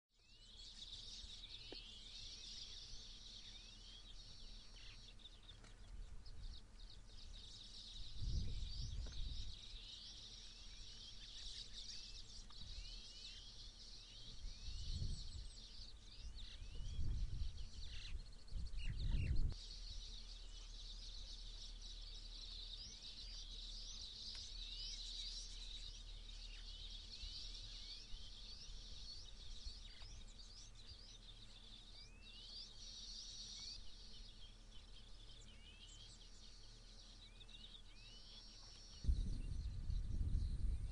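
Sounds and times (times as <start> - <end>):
small birds chirping chorus: 0.0 - 40.9.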